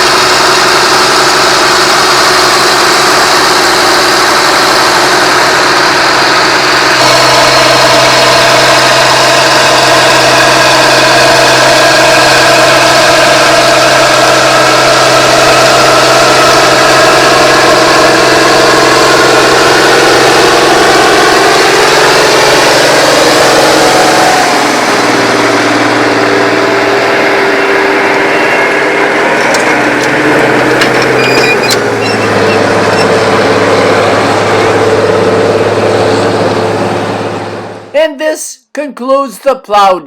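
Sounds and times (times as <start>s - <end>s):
tractor engine running: 0.0s - 38.3s.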